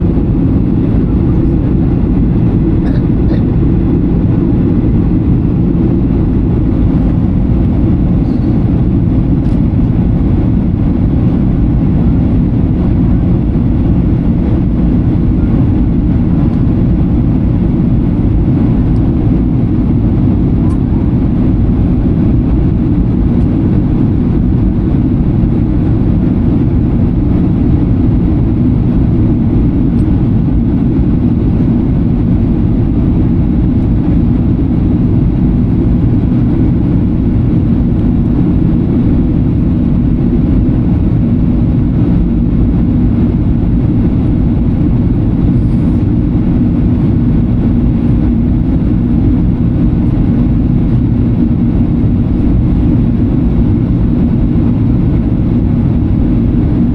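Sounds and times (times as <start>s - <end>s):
airplane cabin engine drone: 0.0s - 56.9s.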